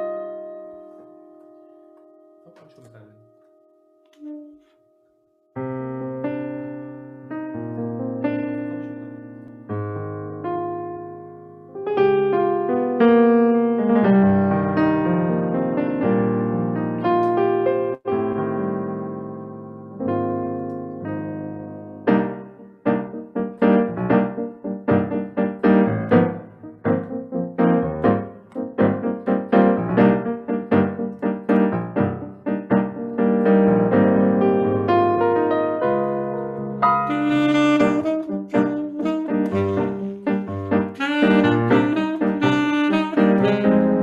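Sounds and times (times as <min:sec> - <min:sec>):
electric piano sustained chords: 0:05.6 - 0:44.0.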